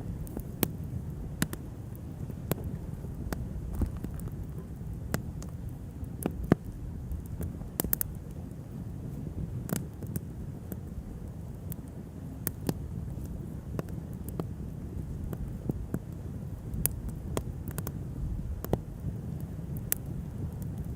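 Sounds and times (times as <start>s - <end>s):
low rumble of flame and wind: 0.0s - 20.9s
wood fire crackling and popping: 0.0s - 20.9s.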